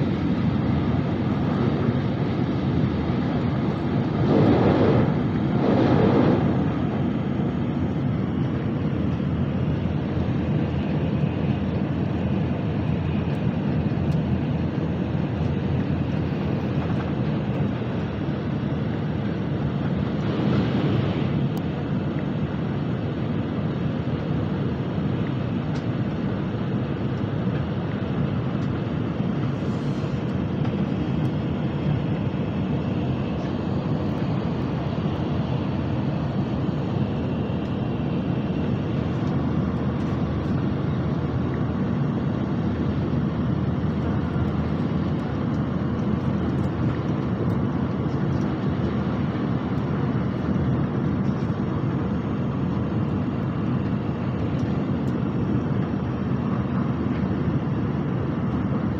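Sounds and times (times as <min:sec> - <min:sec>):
train rumbling at speed: 0:00.0 - 0:58.9.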